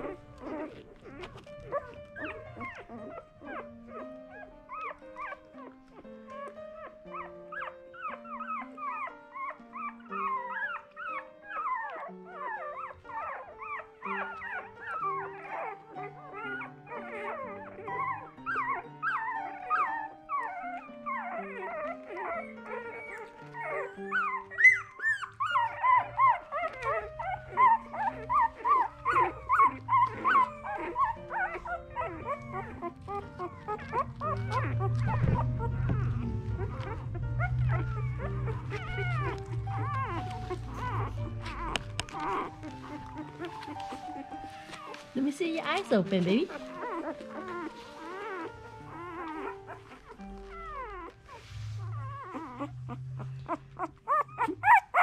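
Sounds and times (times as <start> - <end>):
puppies squeaking and whimpering: 0.0 - 55.0
slow background melody: 0.0 - 55.0.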